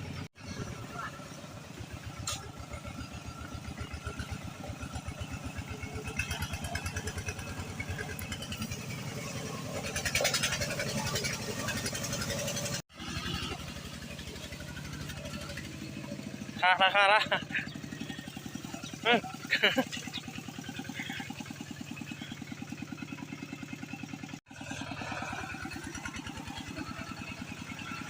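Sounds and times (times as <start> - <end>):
small motorcycle engine running: 0.0 - 28.0.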